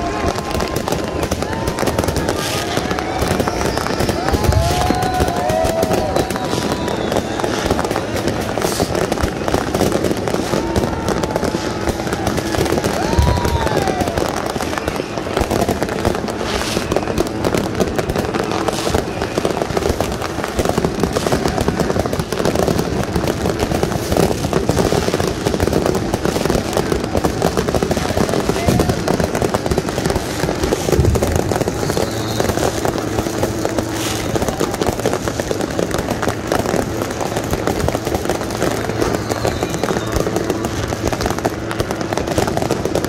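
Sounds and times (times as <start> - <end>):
deep firework boom: 0.0 - 43.0
fireworks crackling and popping: 0.0 - 43.0.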